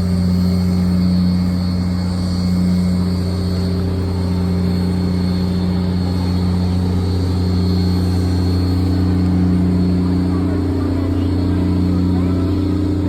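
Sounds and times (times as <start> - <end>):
large engine idling: 0.0 - 13.0.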